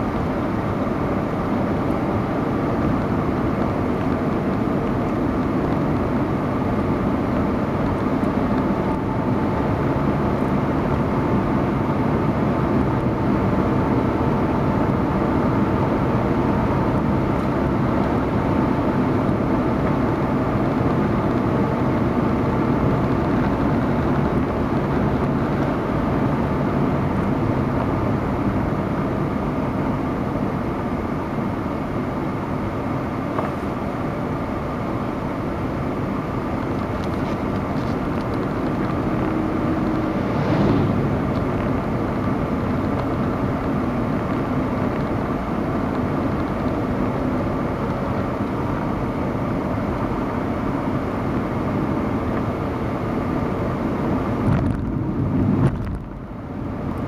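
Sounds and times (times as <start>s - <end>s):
car engine hum: 0.0s - 57.0s
tyre road noise: 0.0s - 57.0s.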